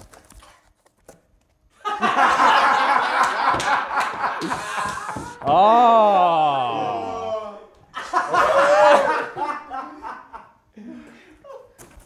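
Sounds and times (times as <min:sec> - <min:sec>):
group of people laughing: 0:01.8 - 0:11.8.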